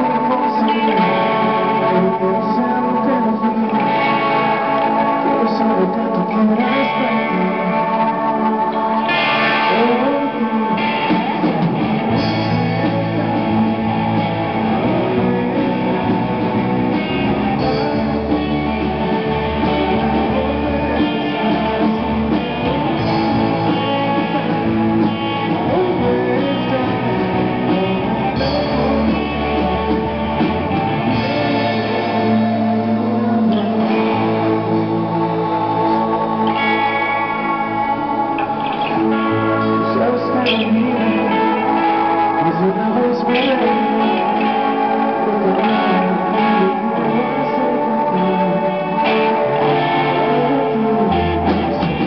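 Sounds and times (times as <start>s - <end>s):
drums: 0.0s - 52.0s
electric bass: 0.0s - 52.0s
electric guitars through effects: 0.0s - 52.0s.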